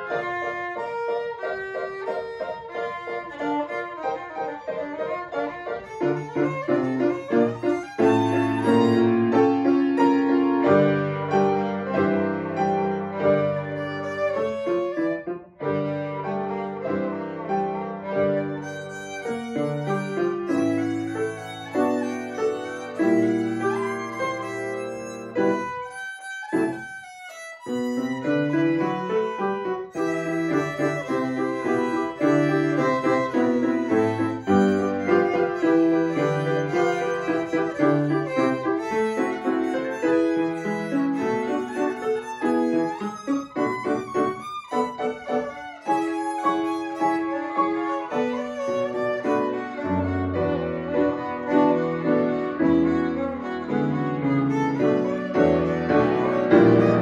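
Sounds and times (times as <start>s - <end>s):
grand piano accompaniment: 0.0s - 57.0s
violin playing: 0.0s - 57.0s.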